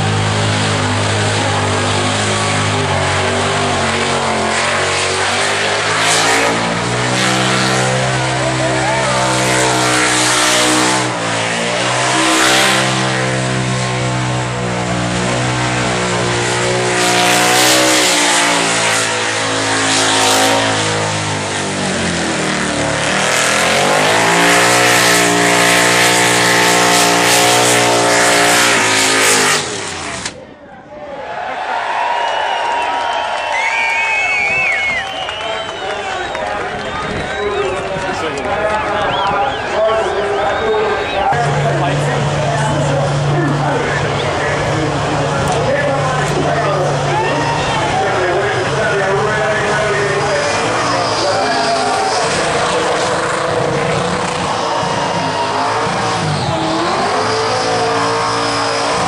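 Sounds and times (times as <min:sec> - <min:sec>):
car engine revving high: 0:00.0 - 0:30.4, 0:33.0 - 0:59.0.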